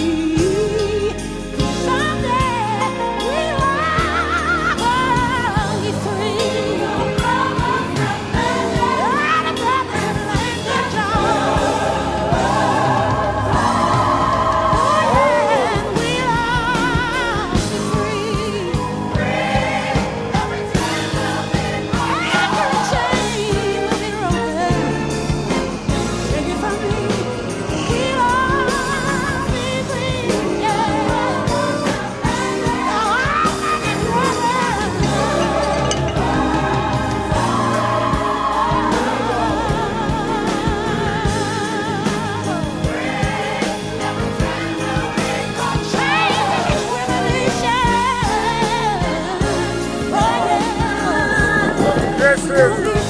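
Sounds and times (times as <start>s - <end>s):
music: 0.0s - 53.0s
song with singer and drums: 0.0s - 53.0s.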